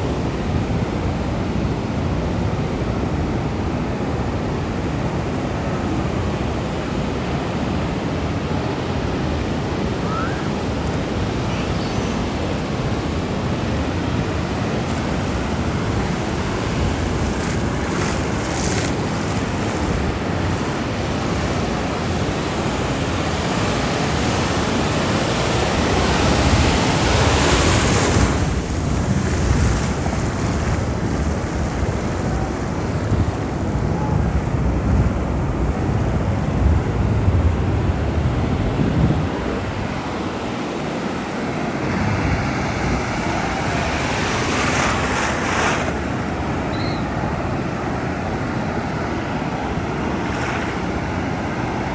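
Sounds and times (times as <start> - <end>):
ocean waves rushing: 4.0 - 51.9
wave breaking: 8.4 - 37.6, 39.1 - 51.9.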